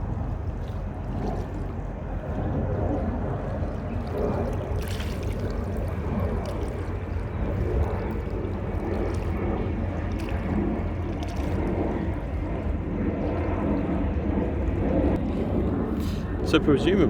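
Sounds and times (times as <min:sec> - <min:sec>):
tugboat engine rumbling: 0:00.0 - 0:17.0
water washing: 0:00.0 - 0:17.0.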